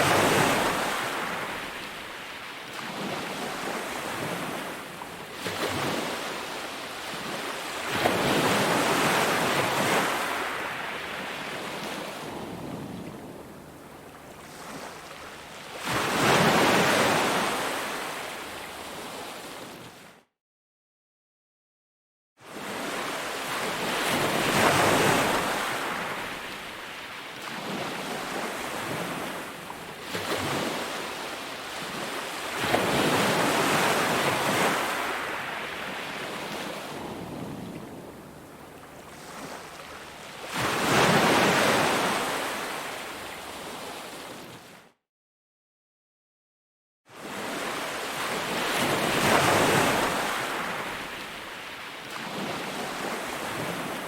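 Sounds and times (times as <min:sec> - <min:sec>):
waves breaking on a beach: 0:00.0 - 0:20.1, 0:22.4 - 0:45.0, 0:47.1 - 0:54.0.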